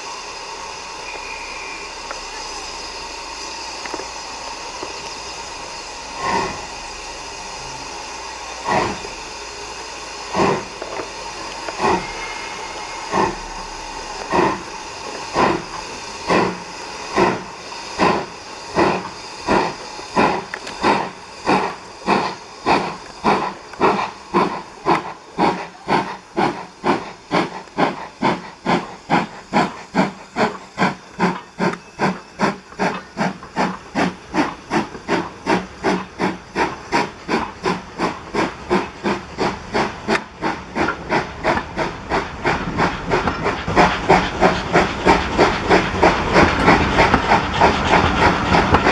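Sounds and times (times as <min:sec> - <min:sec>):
steam hissing: 0:00.0 - 0:48.9
steam locomotive chuffing: 0:00.0 - 0:48.9.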